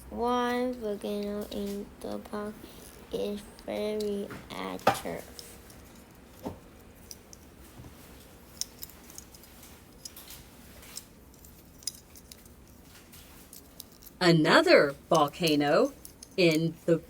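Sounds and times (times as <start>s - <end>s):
low steady room hum: 0.0s - 17.0s.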